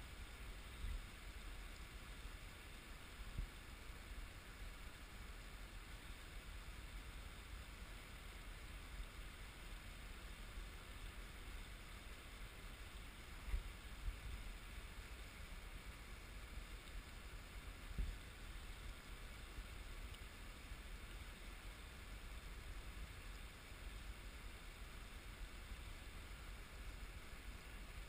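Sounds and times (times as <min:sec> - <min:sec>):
steady rushing hiss: 0:00.0 - 0:28.0.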